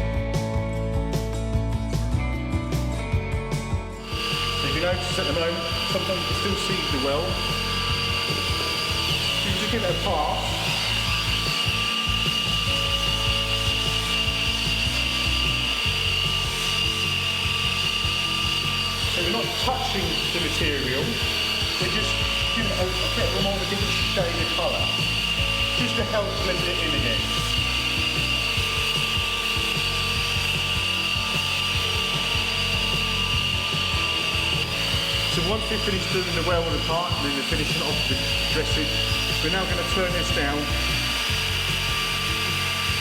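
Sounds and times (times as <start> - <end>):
hot air welding gun whine: 3.5 - 43.0.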